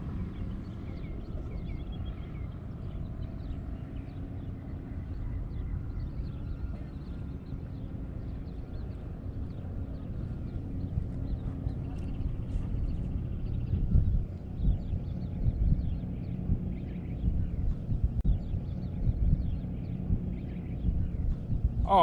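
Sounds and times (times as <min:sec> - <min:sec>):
low outdoor rumble: 0:00.0 - 0:22.0
small birds chirping: 0:00.0 - 0:22.0.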